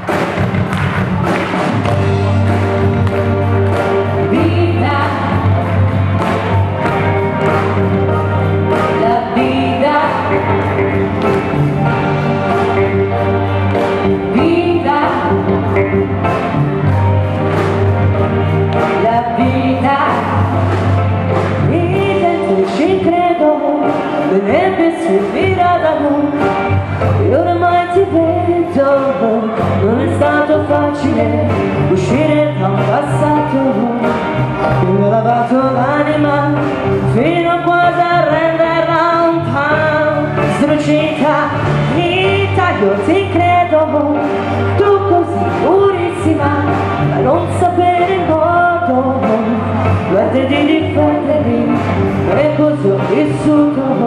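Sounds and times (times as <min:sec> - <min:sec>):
drum kit: 0:00.0 - 0:54.0
keyboards: 0:00.0 - 0:54.0
steady bass line: 0:00.0 - 0:54.0.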